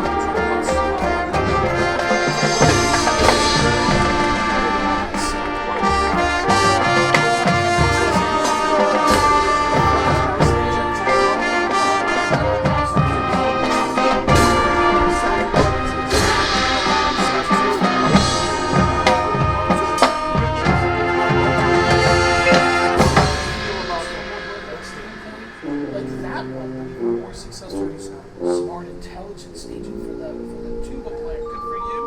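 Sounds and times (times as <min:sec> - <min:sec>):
drumline percussion: 0:00.0 - 0:27.9
cymbal crashes: 0:00.0 - 0:28.2
brass chords: 0:00.0 - 0:32.0.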